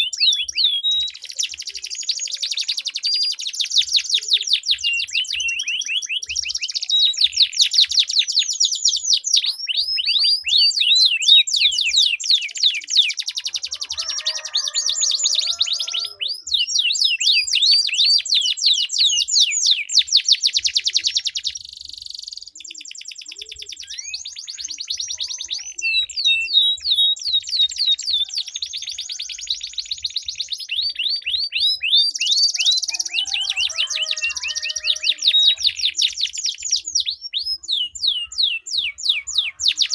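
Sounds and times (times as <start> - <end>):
canaries singing rolling trills: 0.0 - 39.9.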